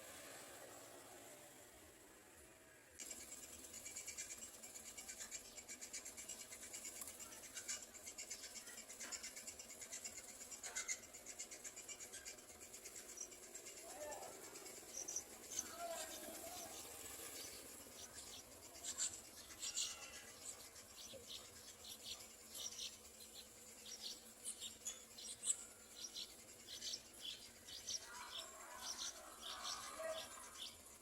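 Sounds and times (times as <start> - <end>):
nestlings begging calls: 3.0 - 31.0.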